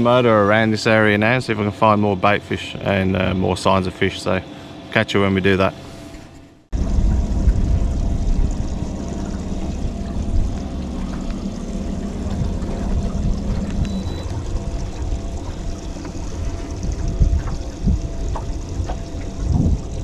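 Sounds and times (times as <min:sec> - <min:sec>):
low boat motor hum: 0:00.0 - 0:20.0
water rushing along hull: 0:00.0 - 0:20.0.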